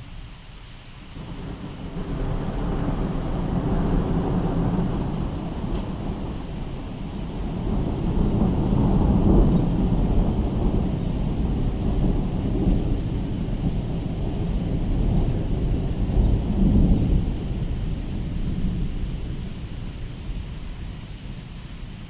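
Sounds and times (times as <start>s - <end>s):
thunder rumbling: 1.2s - 22.0s.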